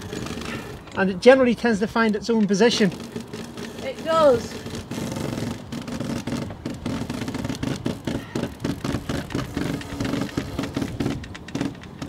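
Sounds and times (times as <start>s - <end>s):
car sliding along track: 0.0s - 12.0s
winch ratchet clicking: 0.0s - 12.0s.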